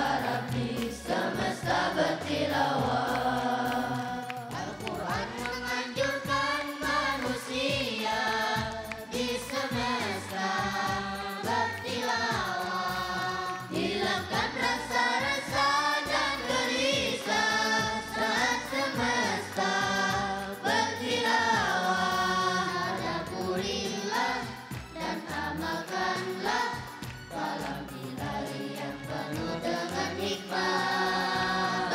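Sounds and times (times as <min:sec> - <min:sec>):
boys choir singing: 0:00.0 - 0:31.9.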